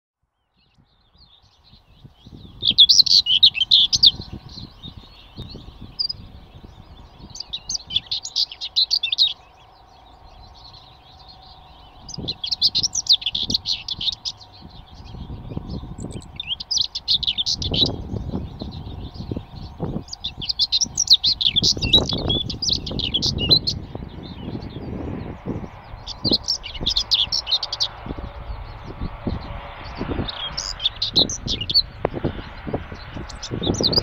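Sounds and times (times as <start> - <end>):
small bird twittering: 1.3 - 29.1, 29.8 - 34.0
faint low rumble: 3.5 - 34.0.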